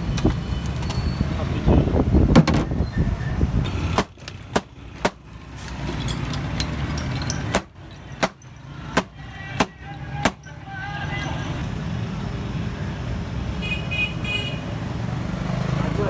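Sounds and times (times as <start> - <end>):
low traffic hum: 0.0 - 16.0.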